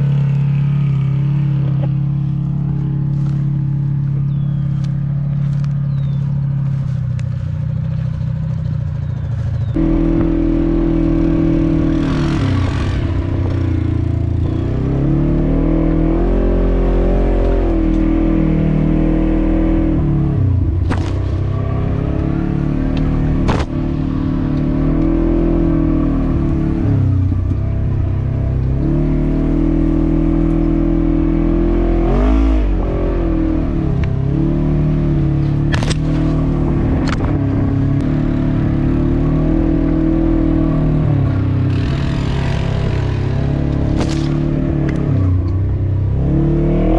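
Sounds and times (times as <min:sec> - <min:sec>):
atv engine revving: 0:00.0 - 0:46.9.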